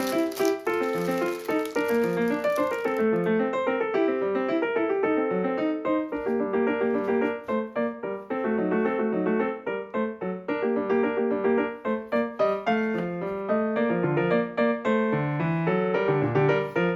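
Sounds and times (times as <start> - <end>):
lively piano music: 0.0 - 16.9.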